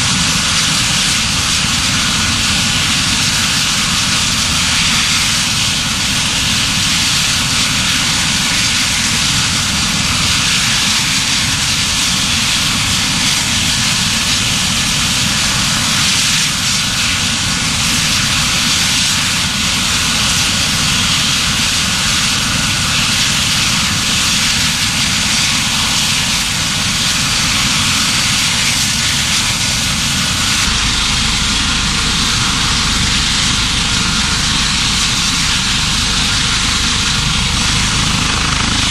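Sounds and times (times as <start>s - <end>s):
helicopter turbine and rotor: 0.0s - 38.9s.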